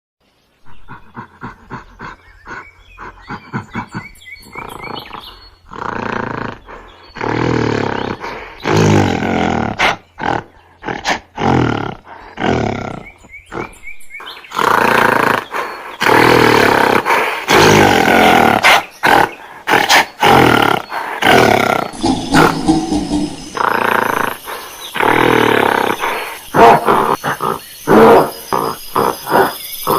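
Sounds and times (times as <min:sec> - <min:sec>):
gorilla grunting: 0:00.6 - 0:29.9
gorilla roaring and growling: 0:00.6 - 0:29.9.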